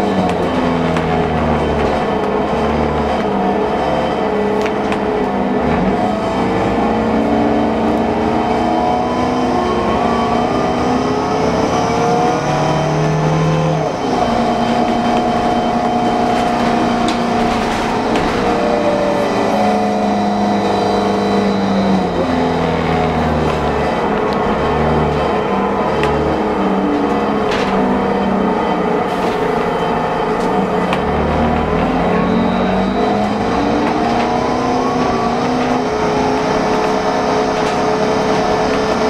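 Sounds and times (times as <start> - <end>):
bus running: 0.0 - 39.0
drivetrain whine: 0.0 - 39.0.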